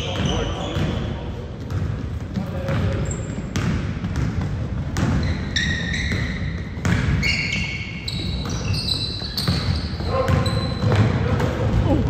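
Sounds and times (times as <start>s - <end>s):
basketball bouncing on wooden floor: 0.0s - 12.0s
sneakers squeaking on floor: 0.0s - 12.0s.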